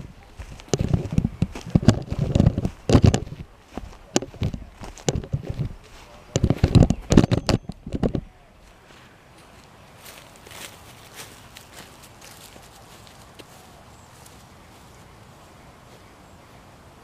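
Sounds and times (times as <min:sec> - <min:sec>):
footsteps on dry sticks and leaves: 0:00.0 - 0:16.1.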